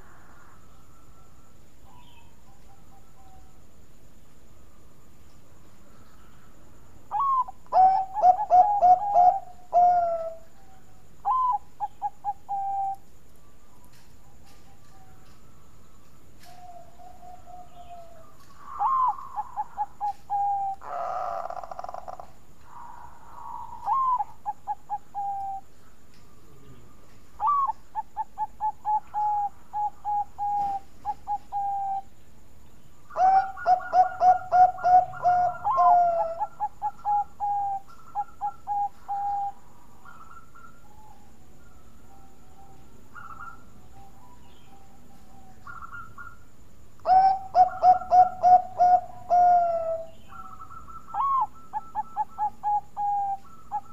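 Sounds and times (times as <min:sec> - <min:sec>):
dove cooing: 0:05.9 - 0:13.0, 0:16.4 - 0:32.2, 0:33.1 - 0:53.9.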